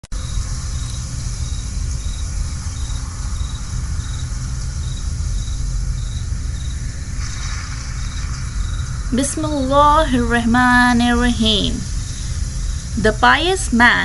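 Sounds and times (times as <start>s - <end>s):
cricket chirping: 0.1s - 14.0s
low rumble and hiss: 0.1s - 14.0s.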